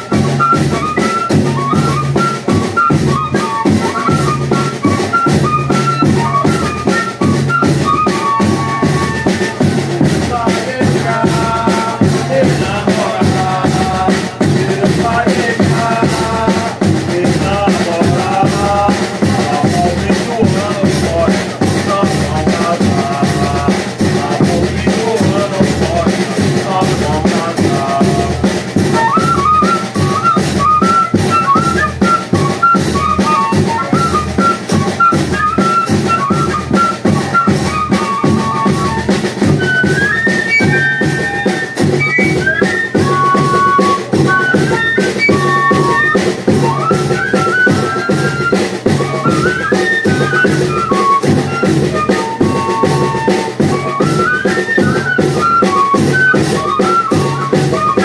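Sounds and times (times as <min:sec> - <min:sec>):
driving drum beat: 0:00.0 - 0:58.0.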